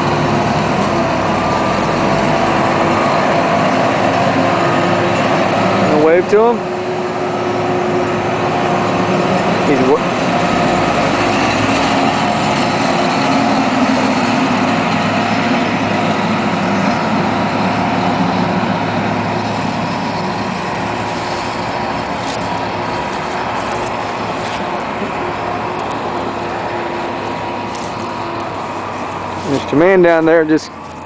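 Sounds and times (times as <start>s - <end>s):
crane engine running: 0.0s - 31.0s.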